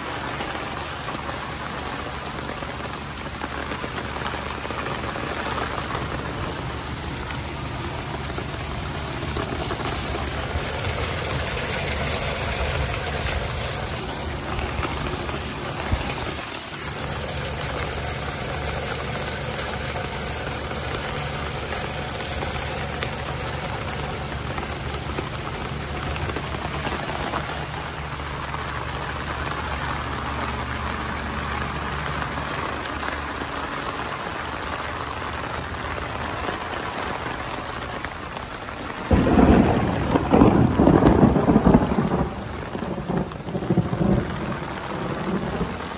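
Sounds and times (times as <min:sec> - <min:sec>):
low engine-like hum: 0:00.0 - 0:42.8
rain on pavement: 0:00.0 - 0:45.9.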